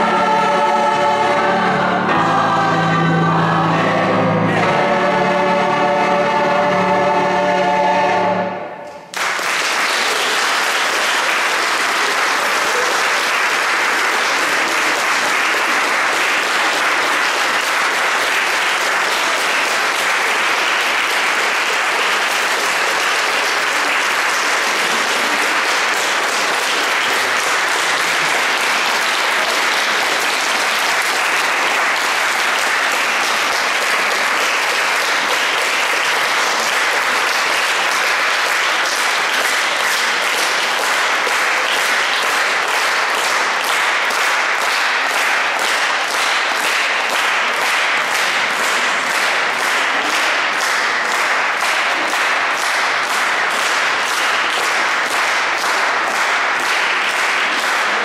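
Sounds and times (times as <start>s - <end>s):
audience applause: 8.9s - 58.0s.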